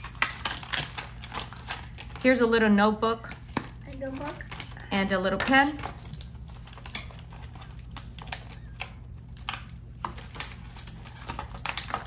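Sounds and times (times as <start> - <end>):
toys and packaging clicking: 0.0 - 2.4, 3.2 - 12.0.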